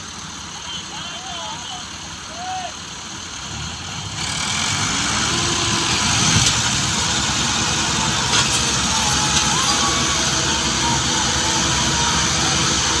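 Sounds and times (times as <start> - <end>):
tractor diesel engines under load: 0.0 - 13.0.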